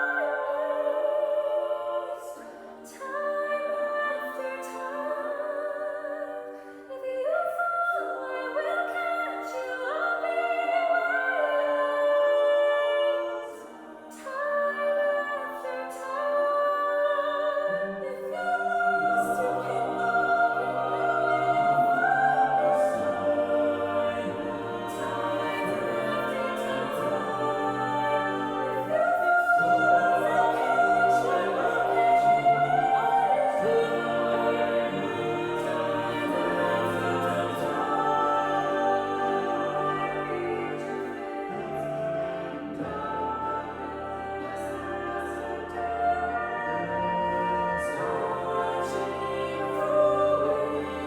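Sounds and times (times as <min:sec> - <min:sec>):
choir-like singing: 0:00.0 - 0:51.0.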